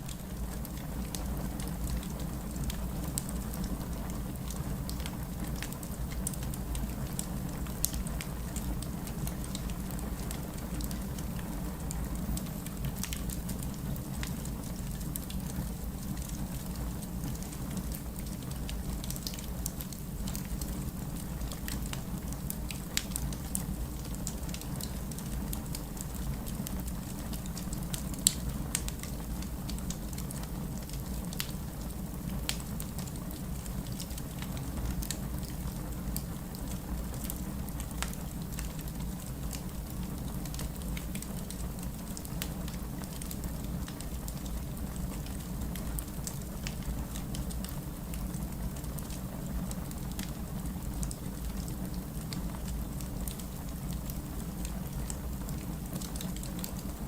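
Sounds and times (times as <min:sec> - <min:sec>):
rain rumble: 0:00.0 - 0:57.0
wood fire crackling: 0:00.0 - 0:57.0.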